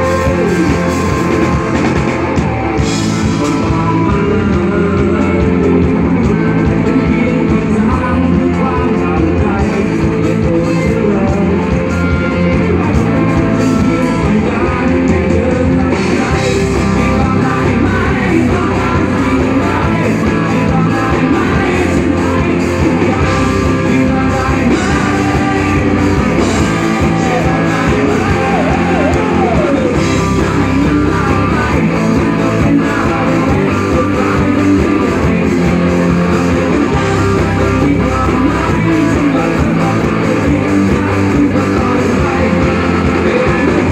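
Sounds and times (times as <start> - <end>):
drums: 0.0 - 43.9
electric guitars: 0.0 - 43.9
person singing: 0.0 - 43.9.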